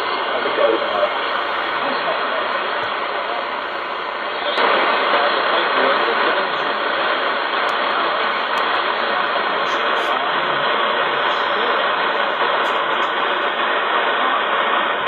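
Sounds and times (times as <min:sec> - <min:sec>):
shortwave radio static: 0:00.0 - 0:15.0.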